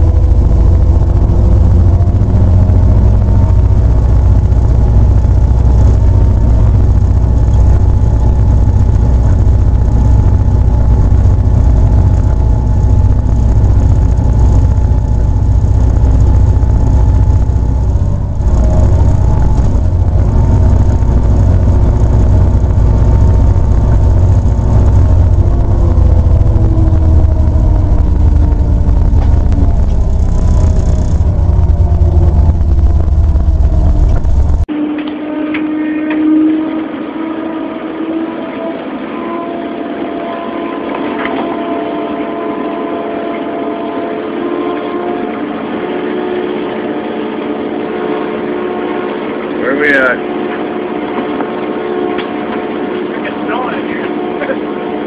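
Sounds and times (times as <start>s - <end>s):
steady engine tones: 0.0s - 55.0s
train engines rumbling: 0.0s - 55.0s.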